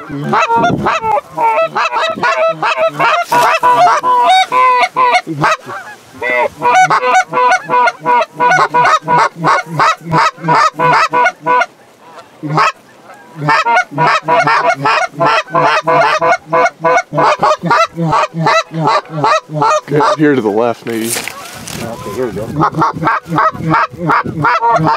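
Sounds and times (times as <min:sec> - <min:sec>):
goose call honks and clucks: 0:00.0 - 0:24.9.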